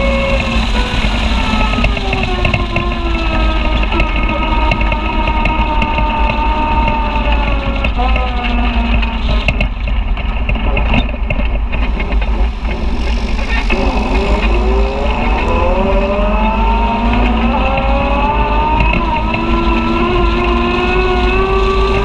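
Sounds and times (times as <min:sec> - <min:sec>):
utility vehicle engine running: 0:00.0 - 0:22.0
wind rumble on microphone: 0:00.0 - 0:22.0.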